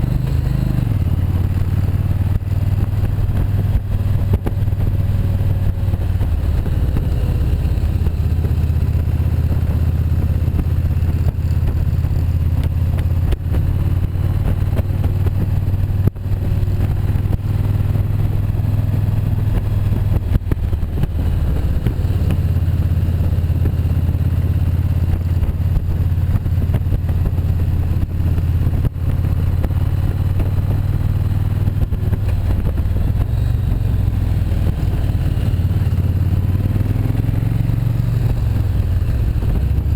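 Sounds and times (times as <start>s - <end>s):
motorcycle engine rumbling: 0.0s - 39.9s
wind rushing on microphone: 0.0s - 39.9s.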